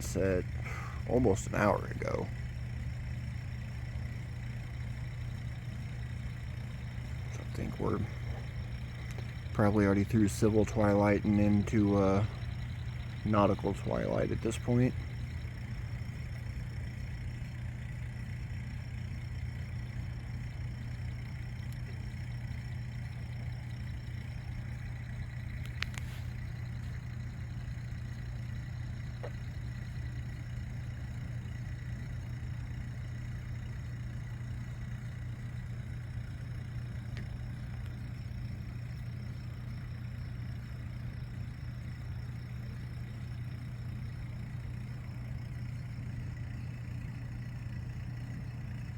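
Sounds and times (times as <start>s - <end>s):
pump humming: 0.0s - 48.9s.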